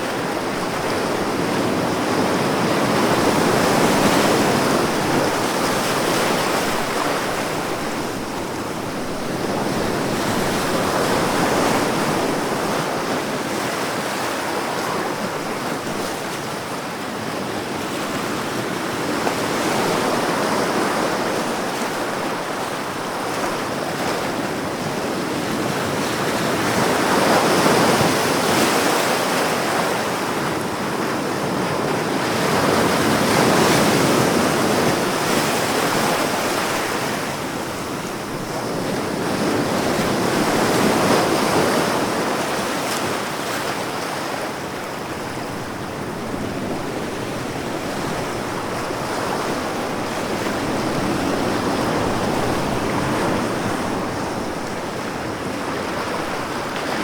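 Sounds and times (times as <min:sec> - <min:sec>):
ocean surf: 0:00.0 - 0:57.0.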